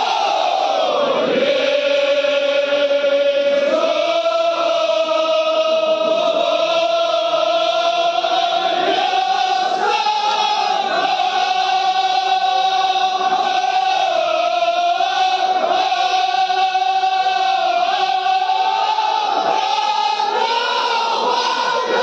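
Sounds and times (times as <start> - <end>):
crowd of men chanting: 0.0 - 22.0.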